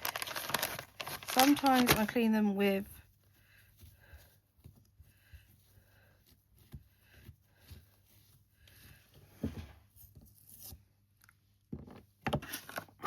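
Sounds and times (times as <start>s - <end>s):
hands rubbing craft materials: 0.0s - 10.8s.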